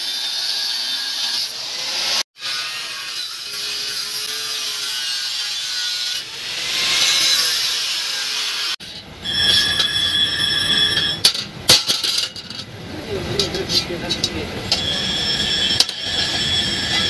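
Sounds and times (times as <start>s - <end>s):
angle grinder grinding steel: 0.0s - 12.6s, 13.4s - 17.0s.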